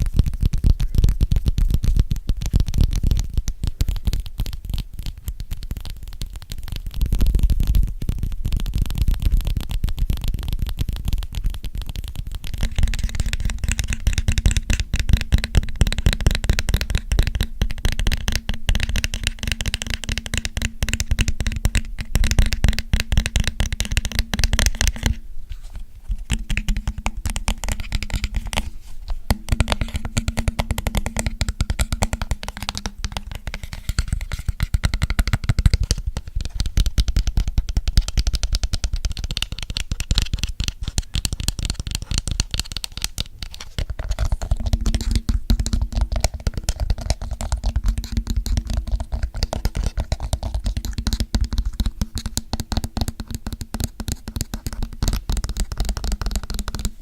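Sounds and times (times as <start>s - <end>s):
fast finger tapping on object: 0.0s - 25.2s, 26.1s - 57.0s.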